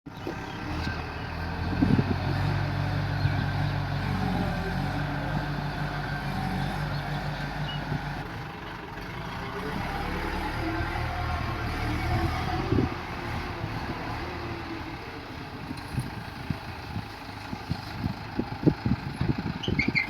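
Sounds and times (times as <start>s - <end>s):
backhoe diesel engine running: 0.1s - 20.0s.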